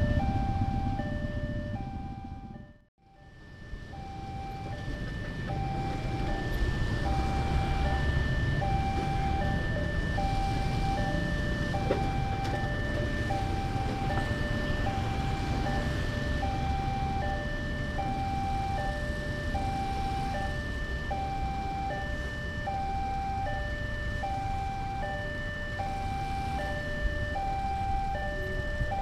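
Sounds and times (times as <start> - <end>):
road traffic: 0.0 - 29.0
two-tone crossing alarm: 0.0 - 29.0.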